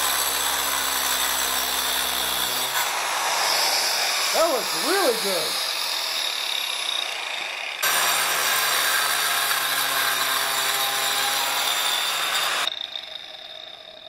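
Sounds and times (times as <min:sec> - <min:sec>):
angle grinder cutting brick: 0:00.0 - 0:14.0
angle grinder running freely: 0:00.0 - 0:14.0.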